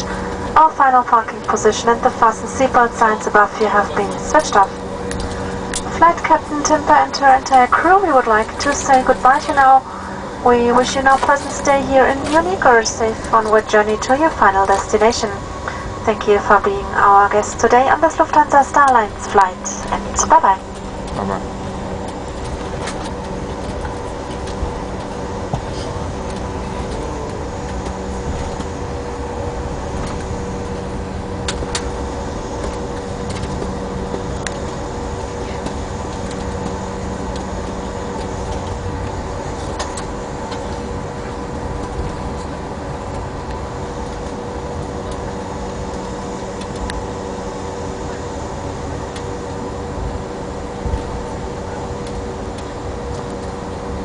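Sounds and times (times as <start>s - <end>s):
airliner cabin rushing hum: 0.0s - 54.0s.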